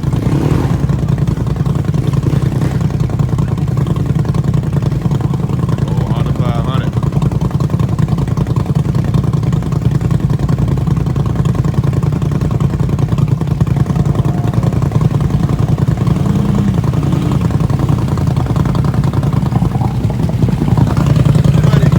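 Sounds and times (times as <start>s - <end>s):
engine running steadily: 0.0s - 21.9s.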